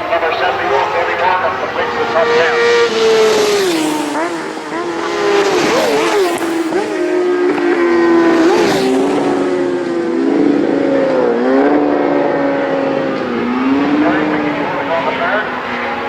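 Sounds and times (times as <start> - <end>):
racing motorcycles at speed: 0.0 - 16.0.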